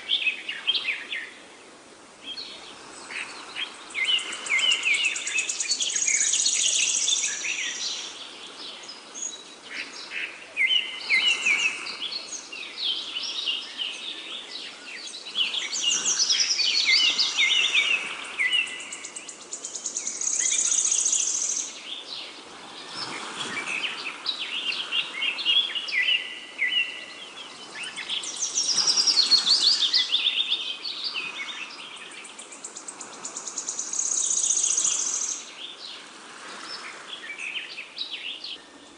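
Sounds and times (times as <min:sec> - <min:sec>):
birds chirping and trilling: 0:02.2 - 0:38.9.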